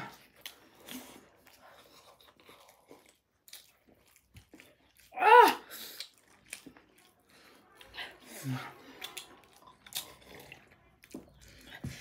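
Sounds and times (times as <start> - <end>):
chewing and mouth clicks: 0.0 - 12.0.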